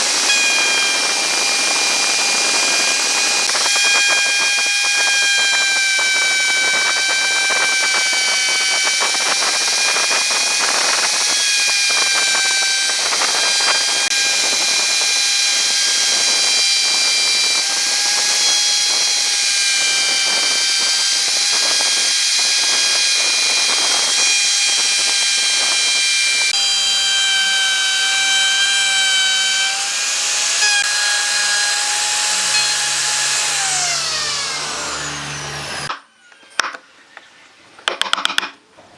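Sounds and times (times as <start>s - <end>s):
electric power tool whining: 0.0s - 37.1s.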